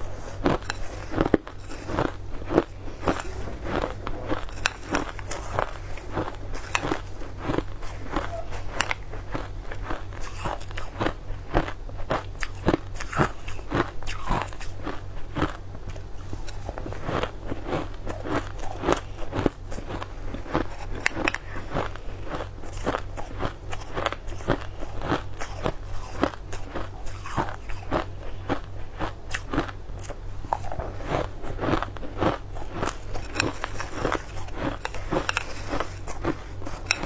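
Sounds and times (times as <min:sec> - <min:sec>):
chewing crushed ice: 0:00.0 - 0:37.0
steady low hum: 0:00.0 - 0:37.0.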